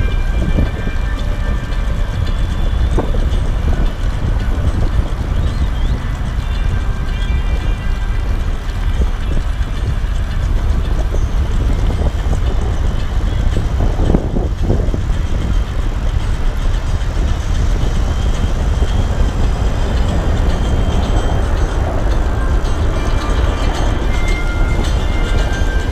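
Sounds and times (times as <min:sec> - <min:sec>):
bike travel noise: 0:00.0 - 0:25.9
wind buffeting on microphone: 0:00.0 - 0:25.9.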